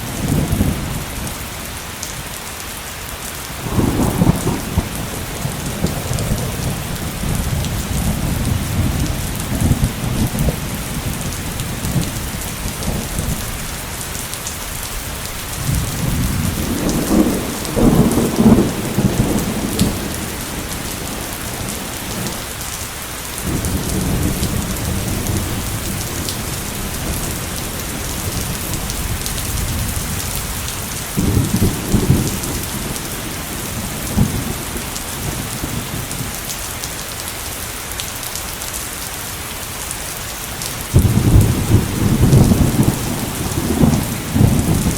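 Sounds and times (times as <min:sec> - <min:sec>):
thunder rumbling: 0:00.0 - 0:01.5, 0:03.6 - 0:22.7, 0:23.4 - 0:36.4, 0:40.6 - 0:44.9
heavy rain hissing: 0:00.0 - 0:44.9.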